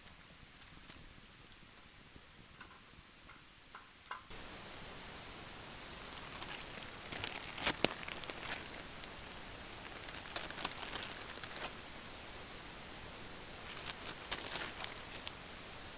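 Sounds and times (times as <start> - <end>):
wood fire crackling and popping: 0.0 - 15.9.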